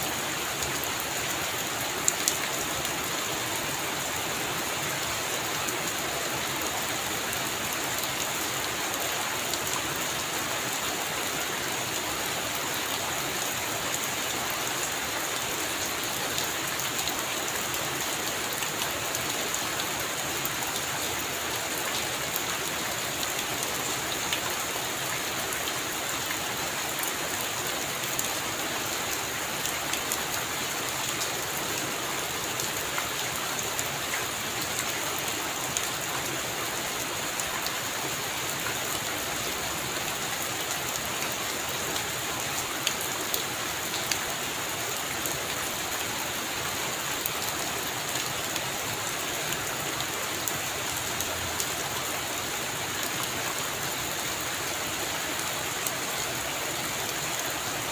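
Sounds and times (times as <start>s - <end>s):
raindrops ticking on surfaces: 0.0s - 57.9s.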